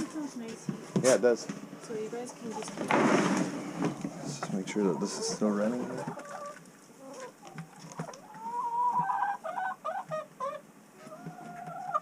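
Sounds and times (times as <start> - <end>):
chickens clucking: 0.0 - 1.3, 1.9 - 12.0.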